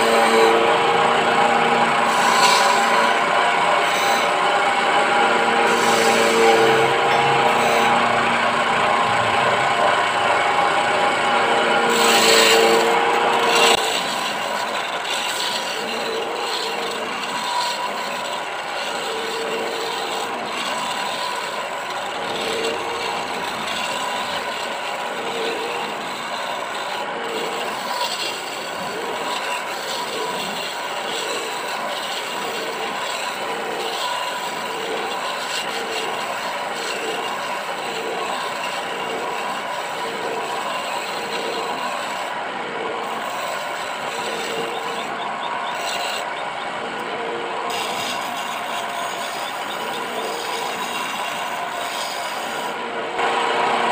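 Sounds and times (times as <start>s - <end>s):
chisel cutting wood on lathe: 0.0s - 53.9s
lathe electric motor hum: 0.0s - 53.9s.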